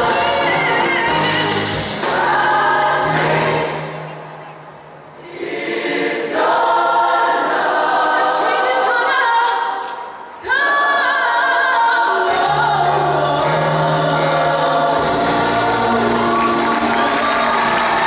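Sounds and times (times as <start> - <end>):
children's choir singing: 0.0 - 4.2, 5.2 - 18.0.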